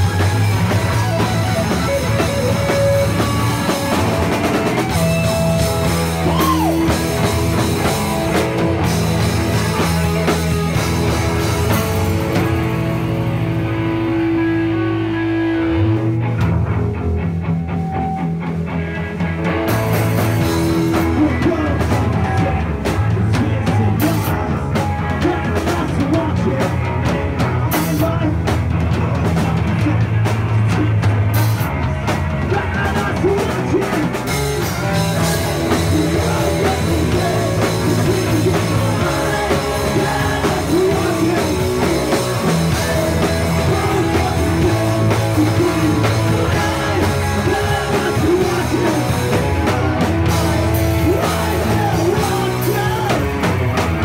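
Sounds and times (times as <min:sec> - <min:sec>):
drum kit and cymbals: 0:00.0 - 0:13.6, 0:19.2 - 0:54.0
bass guitar: 0:00.0 - 0:54.0
electric guitars: 0:00.0 - 0:54.0.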